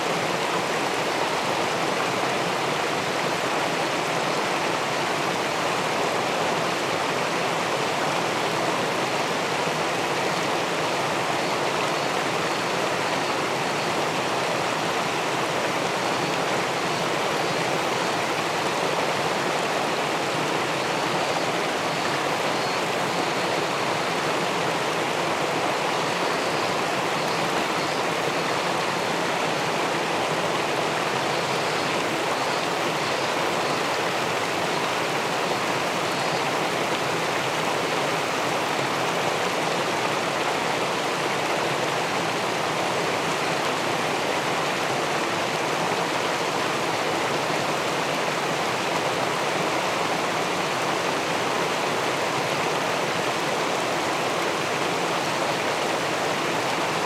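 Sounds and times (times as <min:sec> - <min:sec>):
river water rushing over weir: 0:00.0 - 0:57.0.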